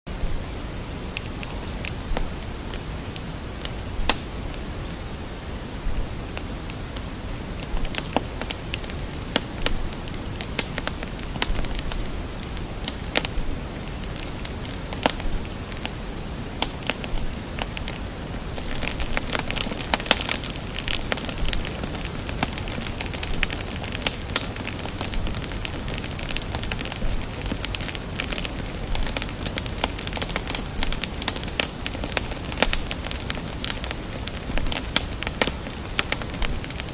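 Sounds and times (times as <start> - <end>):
fire crackling and popping: 1.0 - 36.9.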